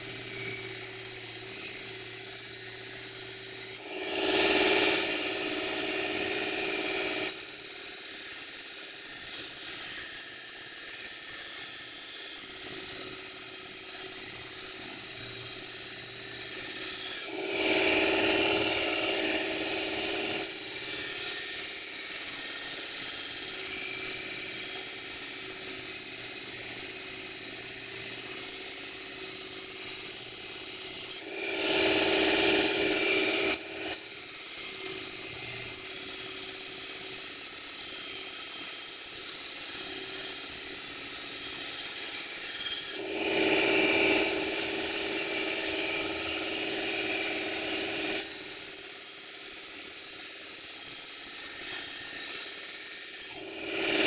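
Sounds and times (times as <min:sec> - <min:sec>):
knife sharpener grinding blade: 0:00.0 - 0:54.0.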